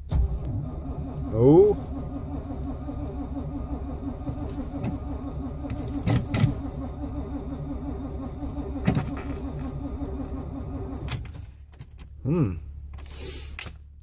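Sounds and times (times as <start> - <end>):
engine cranking by starter: 0.0 - 11.4.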